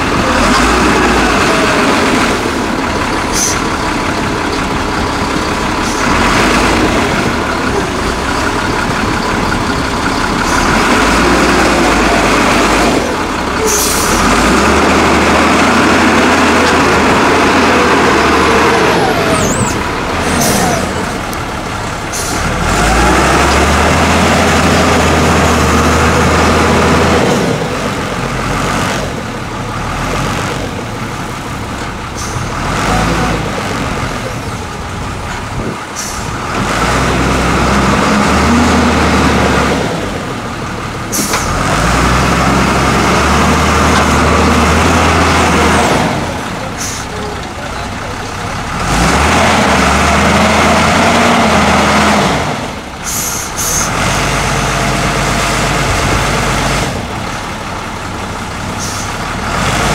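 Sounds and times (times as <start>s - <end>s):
diesel engine revving under load: 0.0s - 59.9s.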